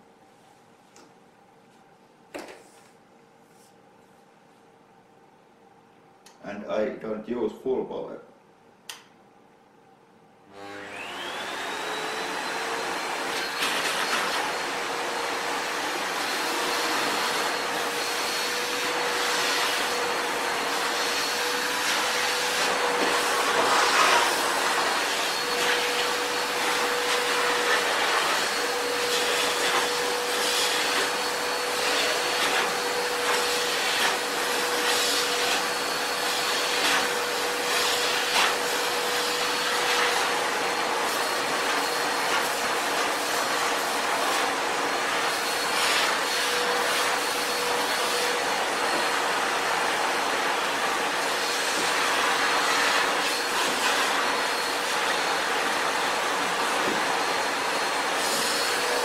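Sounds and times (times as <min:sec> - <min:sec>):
vacuum cleaner running: 0:10.4 - 0:59.0.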